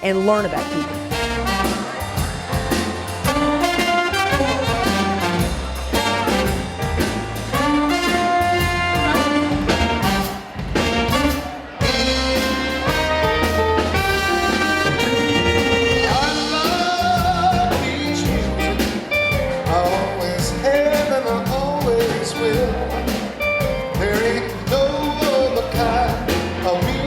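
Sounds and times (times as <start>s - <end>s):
upbeat brass band music: 0.0s - 27.0s.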